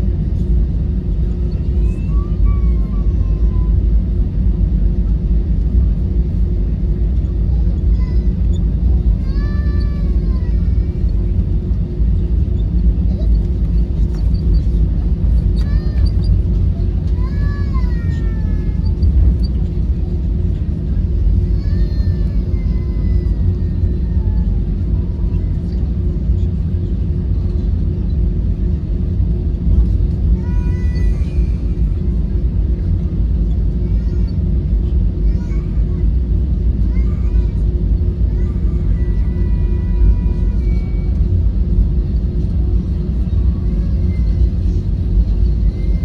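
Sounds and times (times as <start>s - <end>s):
jet engine rumble: 0.0s - 46.0s.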